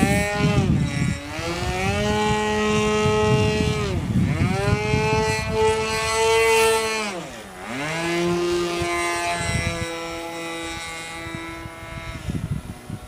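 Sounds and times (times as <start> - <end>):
model airplane engine revving: 0.0 - 13.0.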